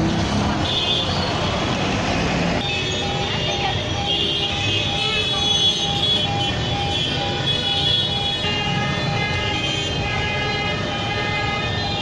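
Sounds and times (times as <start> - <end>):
traffic rumble: 0.0 - 12.0
vehicle horns: 2.3 - 12.0.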